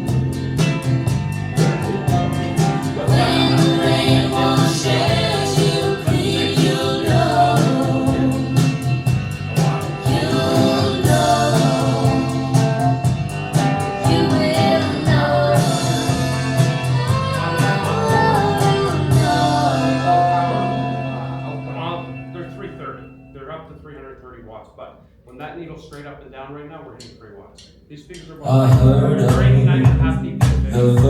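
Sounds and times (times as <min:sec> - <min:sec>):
song over loudspeakers: 0:00.0 - 0:22.9, 0:28.4 - 0:31.0.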